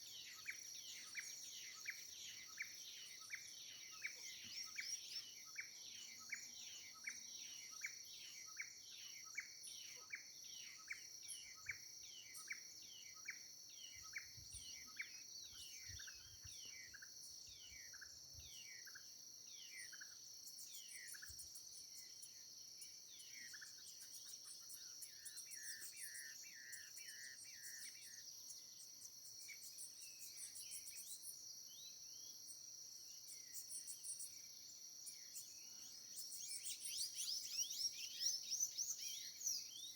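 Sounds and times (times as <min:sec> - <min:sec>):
birds singing: 0:00.0 - 0:39.9
insects droning: 0:00.0 - 0:39.9.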